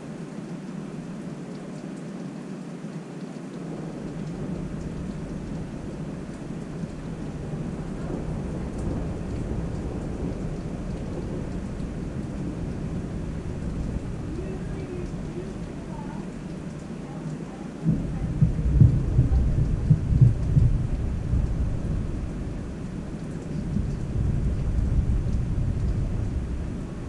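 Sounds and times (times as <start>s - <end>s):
steady rain falling: 0.0s - 27.0s
thunder rumbling: 3.8s - 27.0s.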